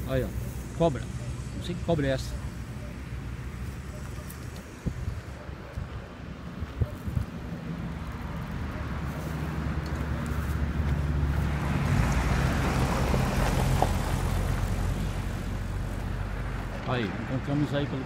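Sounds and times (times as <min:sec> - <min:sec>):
rushing road noise: 0:00.0 - 0:18.0
vehicle engine hum: 0:00.0 - 0:18.0.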